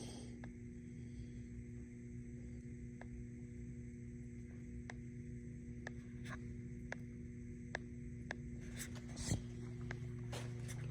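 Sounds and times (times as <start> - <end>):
electrical machine hum: 0.0 - 10.9.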